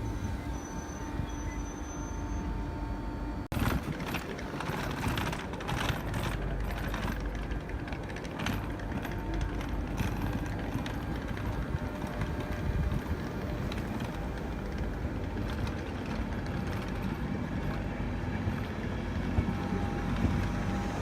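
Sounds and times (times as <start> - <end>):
diesel engine low rumble: 0.0 - 21.0.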